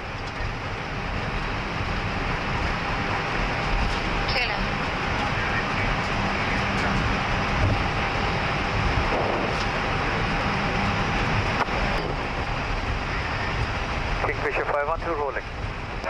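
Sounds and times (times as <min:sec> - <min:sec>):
jet engines rumble and hiss: 0:00.0 - 0:16.0.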